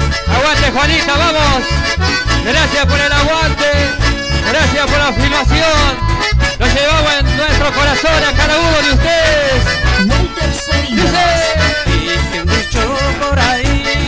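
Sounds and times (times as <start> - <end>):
alternating bass line: 0.0 - 13.9
button accordions playing melody: 0.0 - 14.0
strummed acoustic guitars: 0.0 - 14.0.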